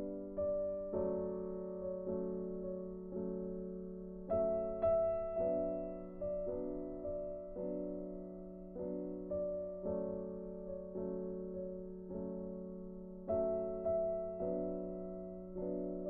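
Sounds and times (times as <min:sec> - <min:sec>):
slow piano notes: 0:00.0 - 0:16.0.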